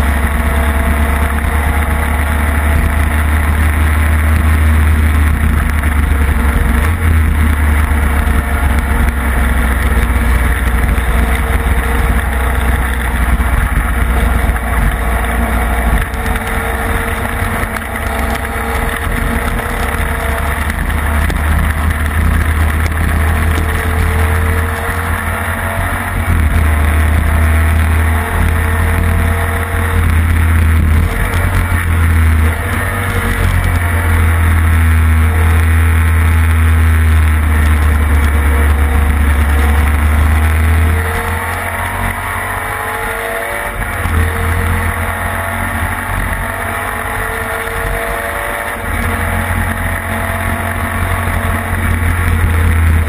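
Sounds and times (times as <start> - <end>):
racing engine running hard: 0.0 - 53.0.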